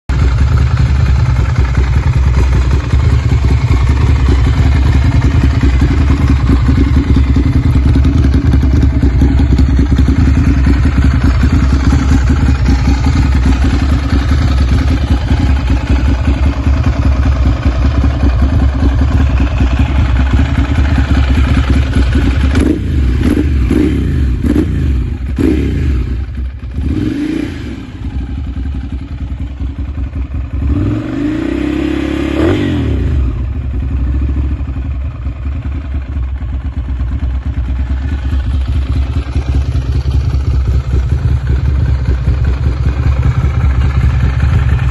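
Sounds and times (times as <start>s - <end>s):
motorcycle engine idling: 0.1s - 44.9s
motorcycle engine revving: 0.1s - 44.9s.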